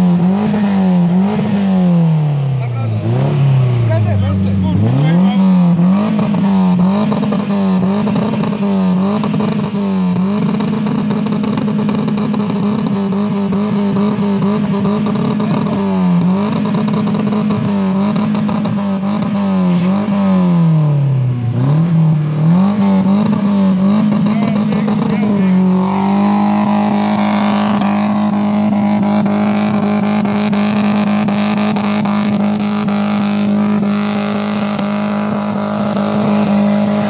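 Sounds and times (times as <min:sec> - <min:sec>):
car engine revving hard: 0:00.0 - 0:37.0.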